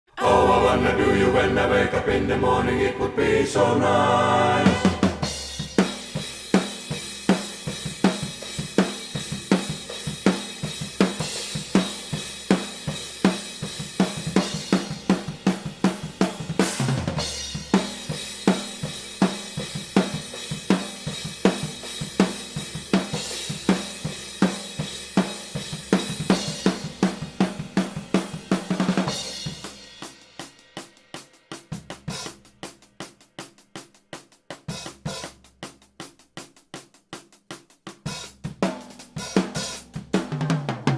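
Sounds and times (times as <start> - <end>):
drum kit playing a beat: 4.0 - 40.9.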